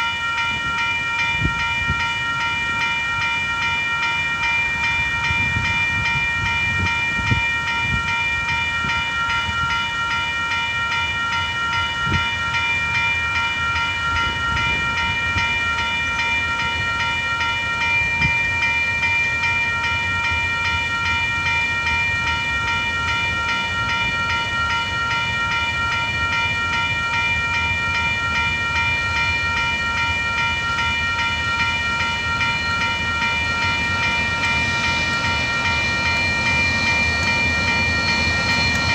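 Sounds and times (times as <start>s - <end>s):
level crossing bells ringing: 0.0s - 38.9s.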